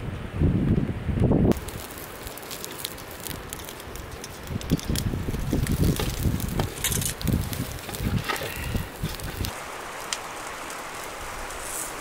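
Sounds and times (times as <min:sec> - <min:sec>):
wind rumbling on microphone: 0:00.0 - 0:12.0
campfire crackling: 0:01.5 - 0:12.0.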